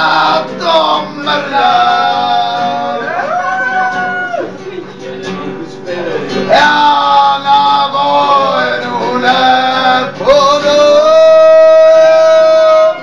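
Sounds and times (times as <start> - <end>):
man singing loudly: 0.0 - 3.8, 6.0 - 13.0
strummed acoustic guitar: 0.0 - 13.0.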